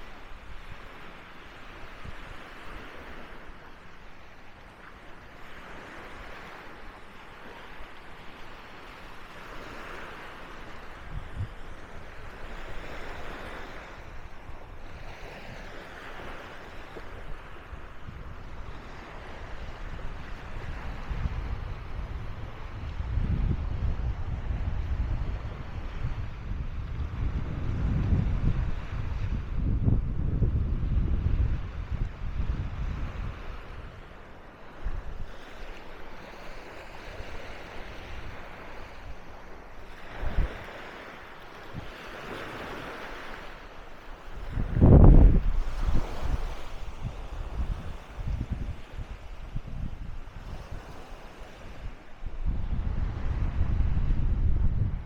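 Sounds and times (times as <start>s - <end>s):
sea waves breaking: 0.0s - 55.0s
surf washing onto beach: 0.0s - 55.0s
wind rumbling on microphone: 0.0s - 55.0s.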